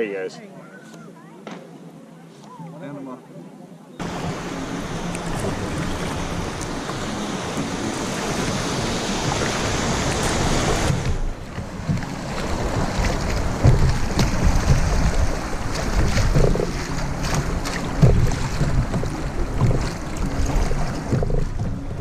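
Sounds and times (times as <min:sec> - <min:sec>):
water splashing against kayak: 0:04.0 - 0:22.0
wind buffeting microphone: 0:04.0 - 0:22.0.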